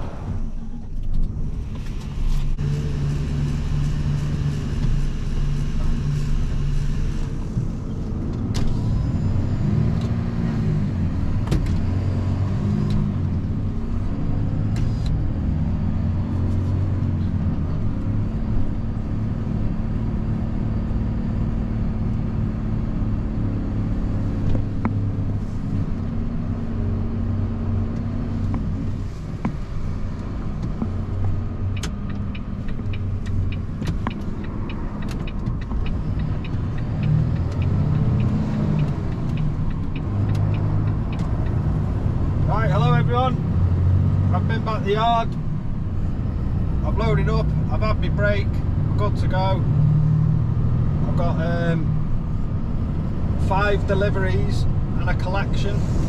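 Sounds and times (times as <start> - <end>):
lorry diesel engine running: 0.0 - 56.0.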